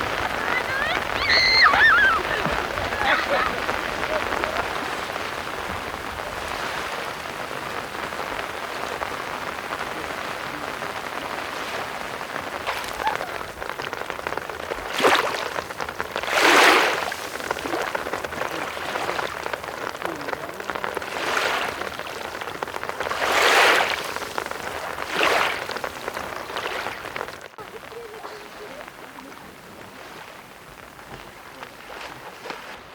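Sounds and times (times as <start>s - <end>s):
rain falling: 0.0s - 32.9s
rushes of noise: 0.0s - 32.9s.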